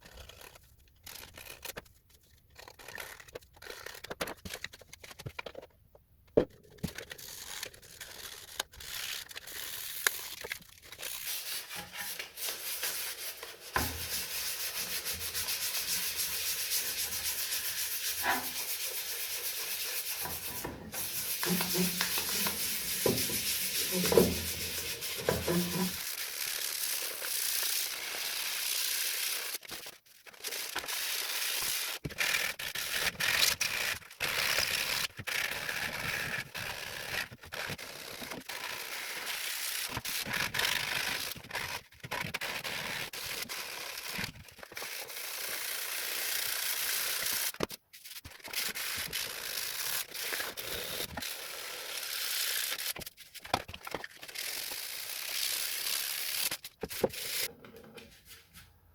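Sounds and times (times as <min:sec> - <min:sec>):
sandpaper rubbing on plastic: 0:07.1 - 0:53.5, 0:54.4 - 0:57.5.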